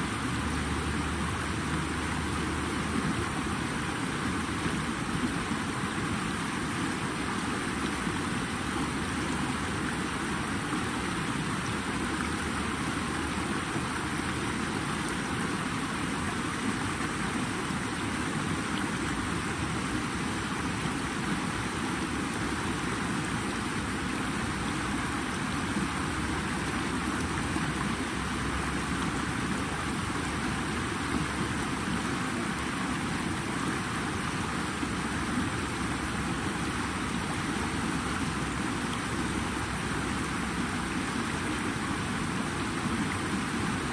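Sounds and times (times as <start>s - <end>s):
water flowing steadily: 0.0s - 43.9s.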